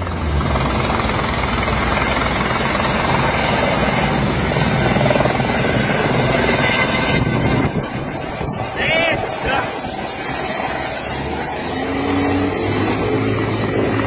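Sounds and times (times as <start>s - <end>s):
helicopter rotor beating: 0.0s - 14.0s
helicopter turbine running: 0.0s - 14.0s.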